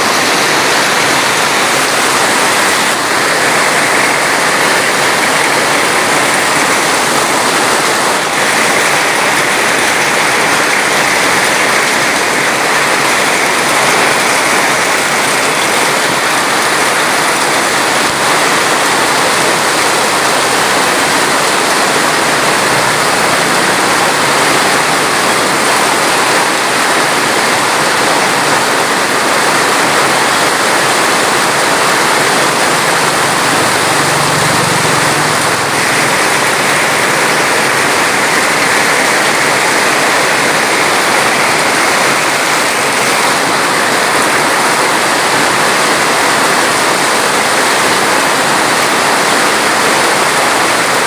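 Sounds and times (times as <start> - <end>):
loud rushing water: 0.0 - 51.0.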